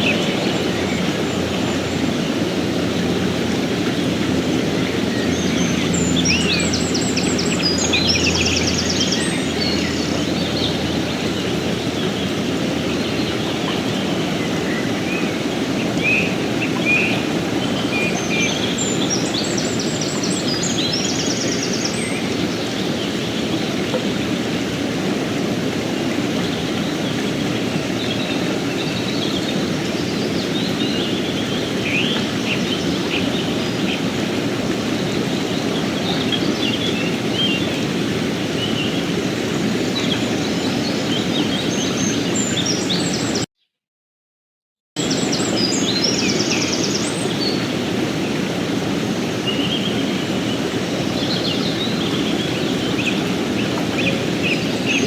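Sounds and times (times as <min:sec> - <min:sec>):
river rushing over rocks: 0:00.0 - 0:43.4, 0:45.0 - 0:55.0.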